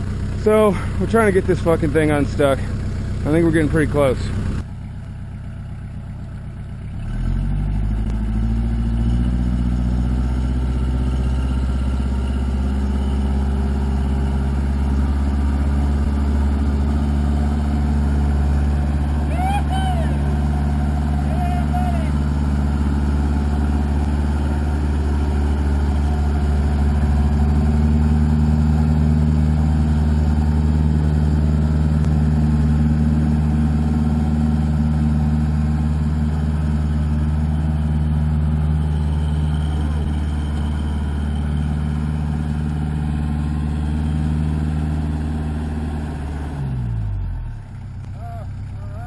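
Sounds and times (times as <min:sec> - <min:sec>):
diesel engine revving high: 0:00.0 - 0:04.7, 0:06.9 - 0:49.0.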